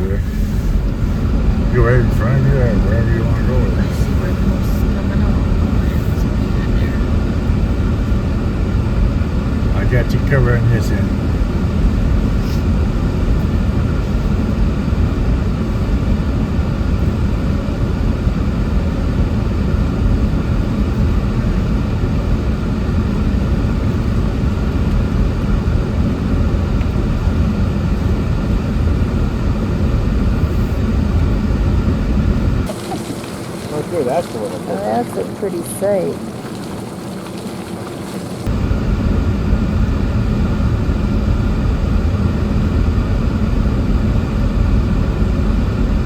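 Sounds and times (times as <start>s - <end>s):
heater fan blowing: 0.0s - 46.0s
truck engine rumble inside cab: 0.0s - 46.0s.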